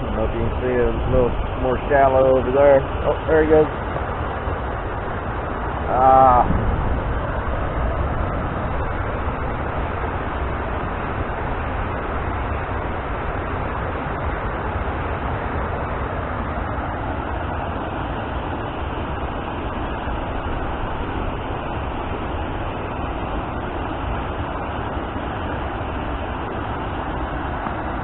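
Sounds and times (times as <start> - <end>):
water pouring over falls: 0.0 - 28.0.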